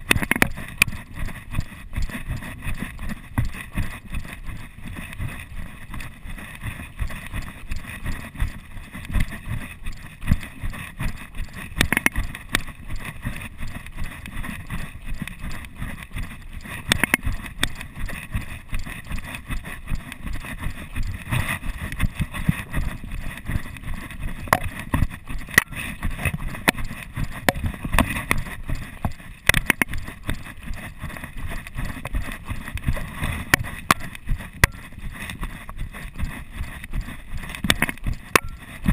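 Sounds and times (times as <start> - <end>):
footsteps on dirt trail: 0.0 - 38.9.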